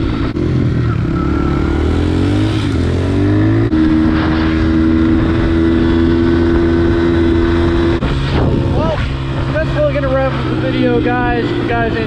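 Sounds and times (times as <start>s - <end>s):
pit bike engine accelerating: 0.0s - 12.0s.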